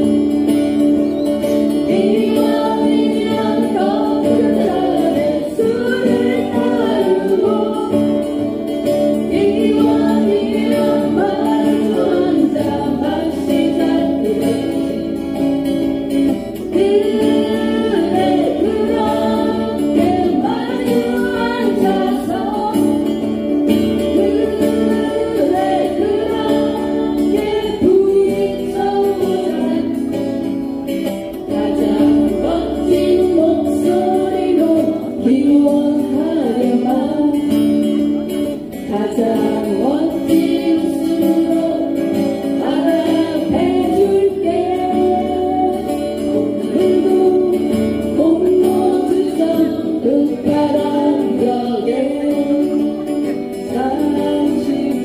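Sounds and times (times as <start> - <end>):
acoustic guitars strumming: 0.0 - 55.0
person singing: 1.0 - 15.4, 16.6 - 55.0.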